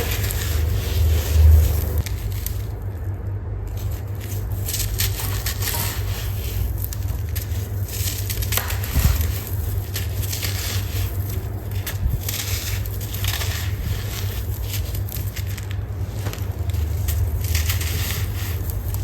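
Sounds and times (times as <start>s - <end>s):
sand-cement clumps crumbling: 0.0s - 19.0s.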